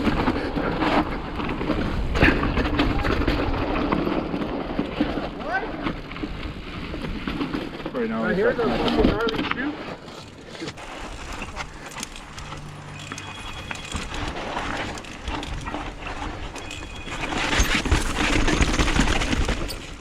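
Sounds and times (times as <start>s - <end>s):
bike rattling over bumps: 0.0s - 20.0s
bike tyres on dirt and rock: 0.0s - 20.0s.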